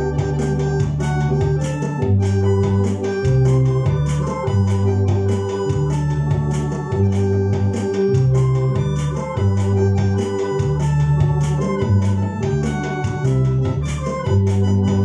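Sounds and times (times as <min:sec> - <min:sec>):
electronic organ chords and bass: 0:00.0 - 0:15.0.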